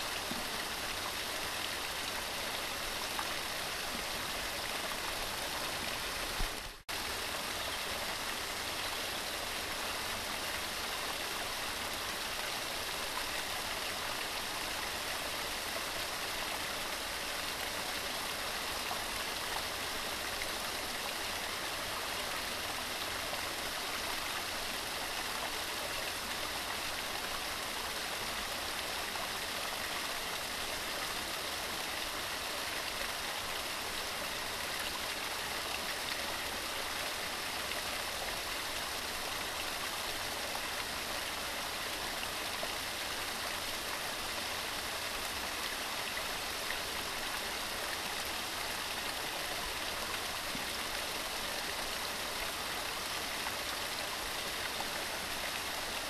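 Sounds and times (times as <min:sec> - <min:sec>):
waterfall rushing and splashing: 0:00.0 - 0:56.0.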